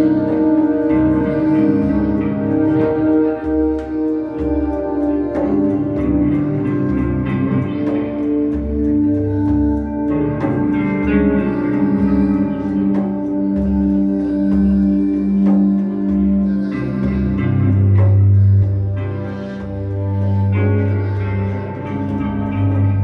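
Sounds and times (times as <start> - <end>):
plucked notes with echo: 0.0 - 23.0
pulsing low tones: 0.0 - 23.0.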